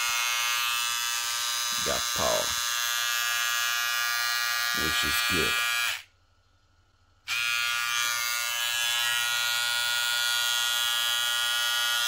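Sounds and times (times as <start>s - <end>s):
hair trimmer buzzing: 0.0s - 6.1s, 7.2s - 12.0s.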